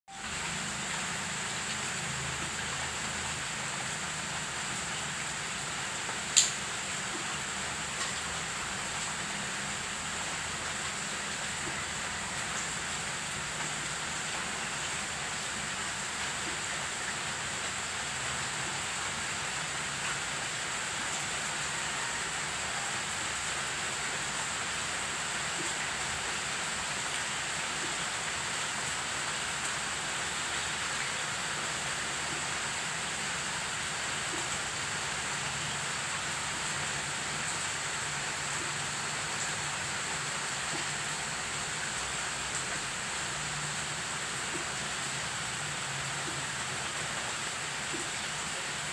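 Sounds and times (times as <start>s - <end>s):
rain falling on plants and stone: 0.1s - 48.9s.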